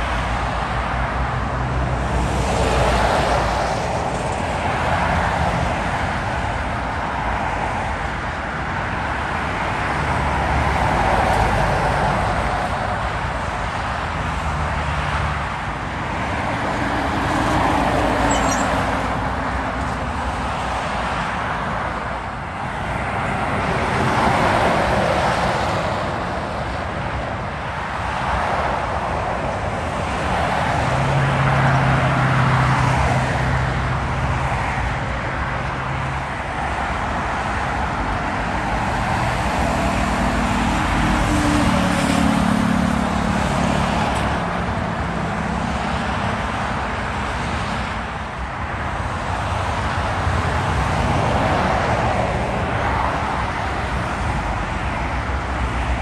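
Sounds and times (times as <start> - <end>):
vehicles passing on motorway: 0.0 - 56.0.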